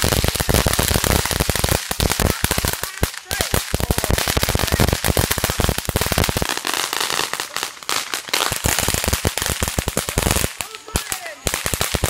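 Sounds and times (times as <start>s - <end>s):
firework crackling sparks: 0.0s - 12.0s.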